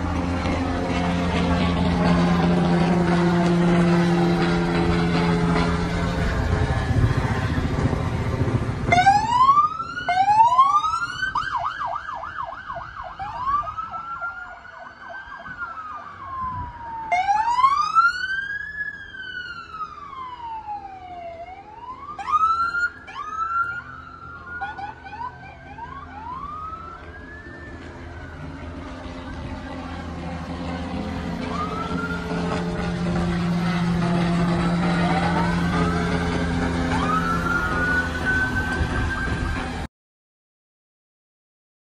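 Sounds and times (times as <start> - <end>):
passing vehicle engines: 0.0 - 39.9
police sirens wailing and yelping: 0.0 - 39.9.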